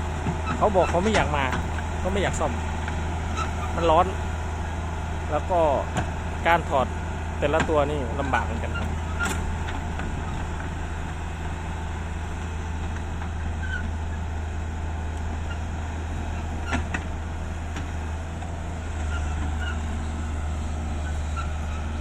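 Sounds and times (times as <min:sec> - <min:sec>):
truck diesel engine droning: 0:00.0 - 0:22.0.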